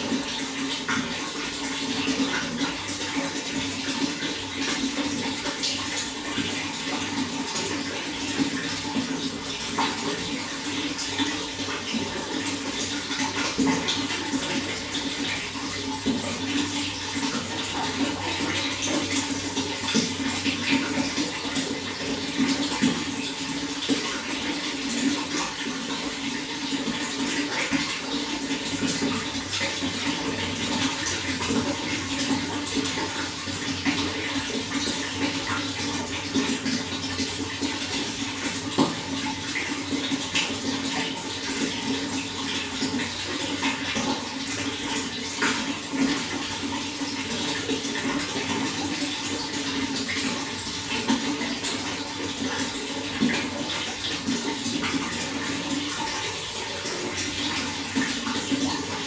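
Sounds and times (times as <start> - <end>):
running water splashing: 0.0 - 59.0.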